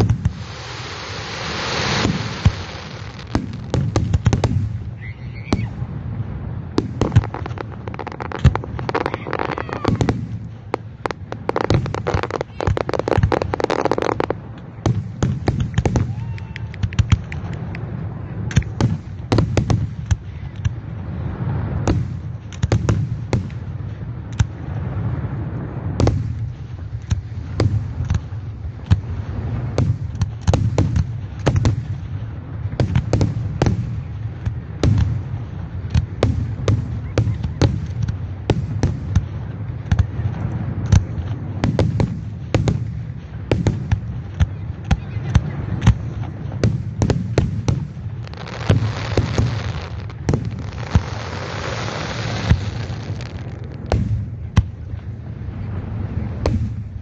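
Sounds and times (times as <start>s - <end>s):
sharp firework bangs: 0.0s - 5.8s, 6.8s - 17.6s, 21.7s - 54.9s, 56.4s - 57.0s
fireworks crackling bangs: 0.0s - 57.0s.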